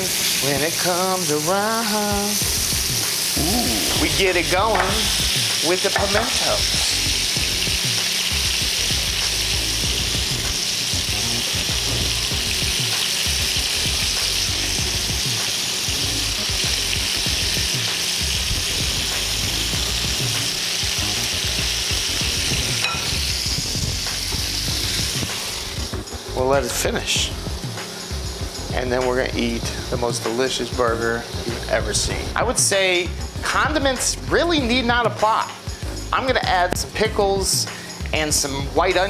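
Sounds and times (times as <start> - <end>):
burger patties sizzling in a skillet: 0.0 - 39.0.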